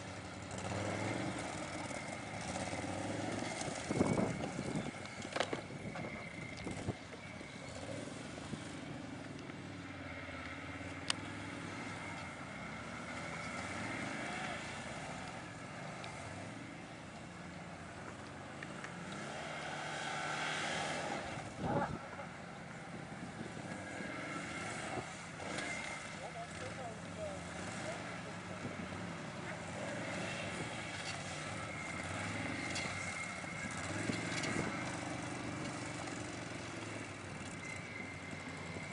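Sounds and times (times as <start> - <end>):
quad bike engines revving: 0.0 - 38.9.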